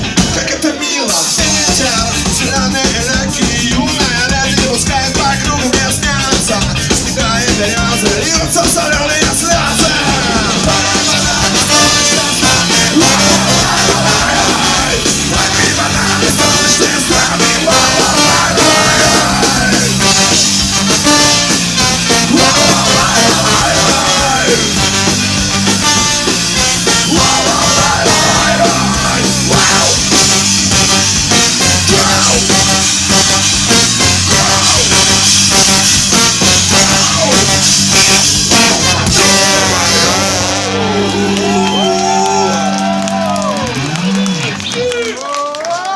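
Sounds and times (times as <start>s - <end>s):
punk rock band playing loudly: 0.0s - 44.8s.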